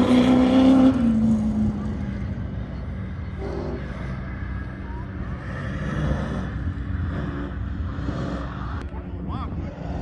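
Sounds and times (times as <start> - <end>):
racing car engine droning: 0.0 - 10.0.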